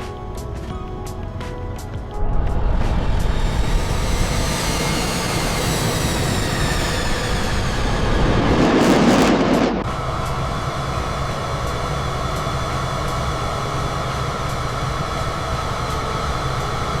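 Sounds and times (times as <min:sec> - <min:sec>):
jet aircraft engine drone: 0:02.0 - 0:17.0
faint held whine: 0:02.1 - 0:17.0.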